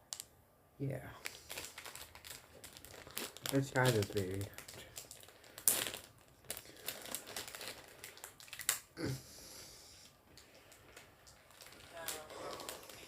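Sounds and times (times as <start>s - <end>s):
plastic wrapper crinkling: 1.2s - 9.0s, 10.3s - 13.0s.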